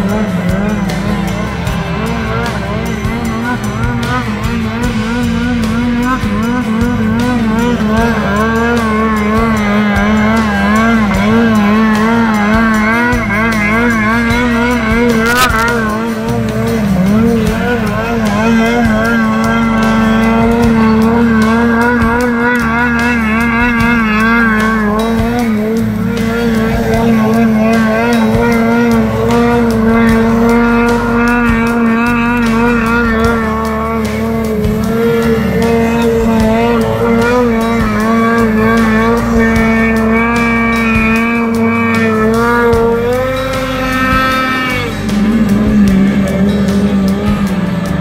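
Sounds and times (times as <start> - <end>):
snowmobile engine at high revs: 0.0 - 48.0.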